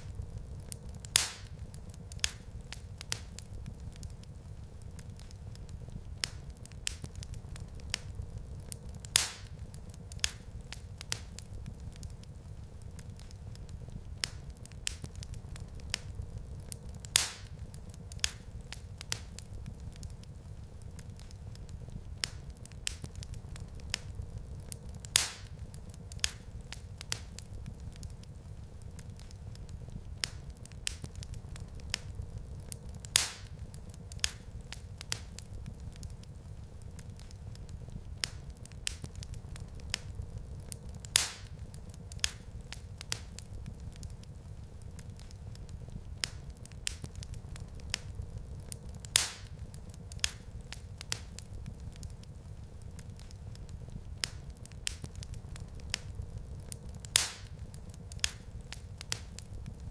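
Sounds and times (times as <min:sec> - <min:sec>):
fire crackling and popping: 0:00.0 - 0:59.9
flames rumbling: 0:00.0 - 0:59.9.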